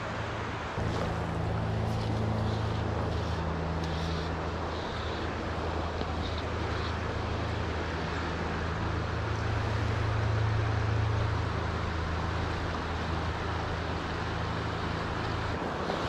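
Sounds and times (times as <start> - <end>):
distant engine droning: 0.0 - 16.0
river flowing: 0.0 - 16.0.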